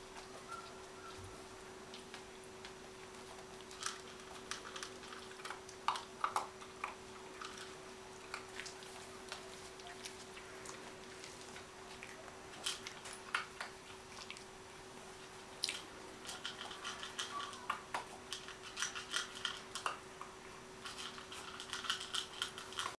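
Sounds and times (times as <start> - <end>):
puppy paws clicking on floor: 0.0 - 14.5, 15.6 - 23.0
faint steady hum: 0.0 - 23.0.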